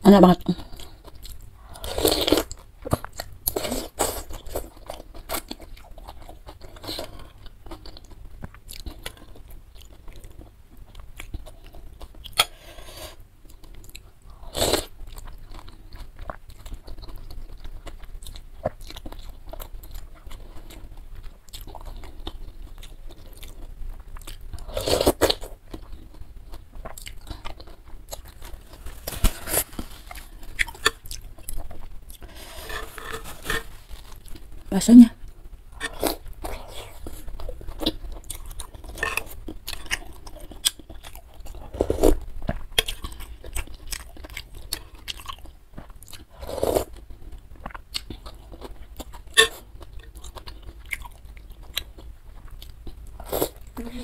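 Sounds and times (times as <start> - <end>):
person chewing noodles: 0.5 - 53.8.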